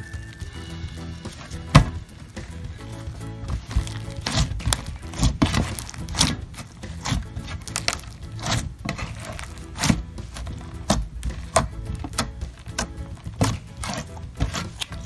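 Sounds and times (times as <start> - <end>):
music: 0.0 - 15.0
slime squishing: 0.1 - 15.0.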